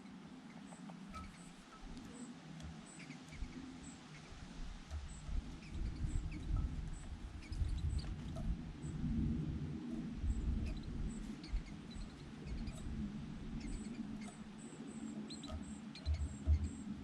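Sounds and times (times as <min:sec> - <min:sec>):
small birds chirping: 0:00.0 - 0:09.2, 0:09.9 - 0:17.0
low rumble: 0:03.3 - 0:17.0.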